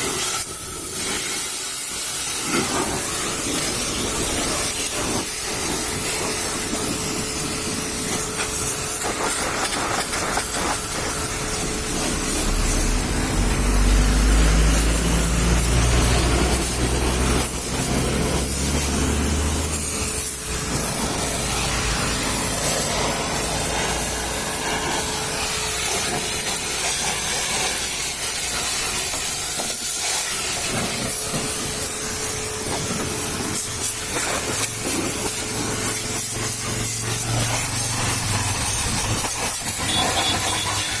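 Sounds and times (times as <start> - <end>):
pressure washer spraying water: 0.0 - 41.0.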